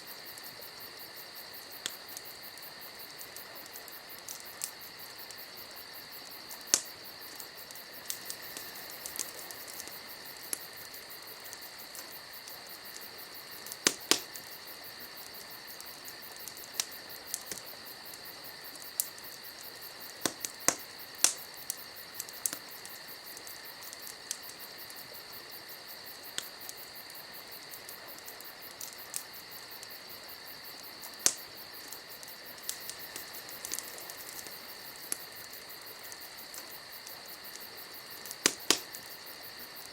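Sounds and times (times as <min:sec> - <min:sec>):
steady high hiss: 0:00.0 - 0:39.9
wood fire crackling: 0:00.0 - 0:39.9
fire pops and snaps: 0:00.1 - 0:39.9.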